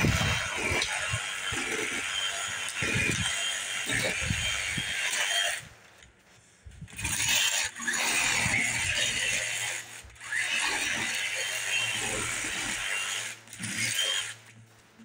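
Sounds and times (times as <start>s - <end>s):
hand saw scraping through branch: 0.0s - 6.2s, 6.8s - 15.0s.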